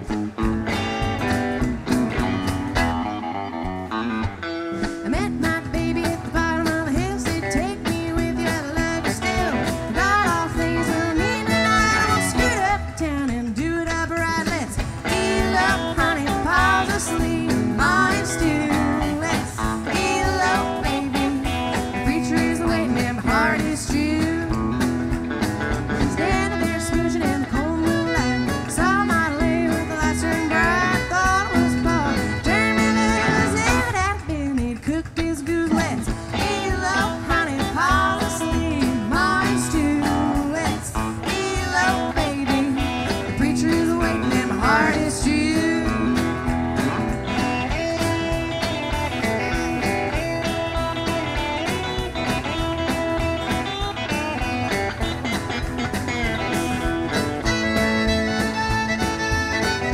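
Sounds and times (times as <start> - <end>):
country band playing: 0.0 - 59.9.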